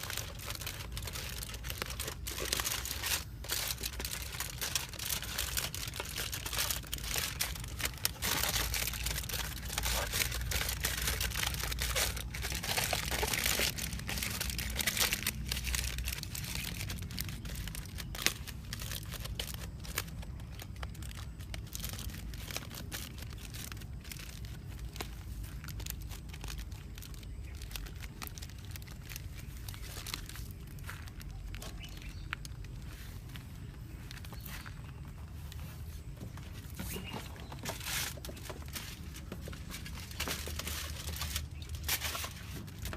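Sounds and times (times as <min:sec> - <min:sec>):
crinkling and crackling handling: 0:00.0 - 0:42.9.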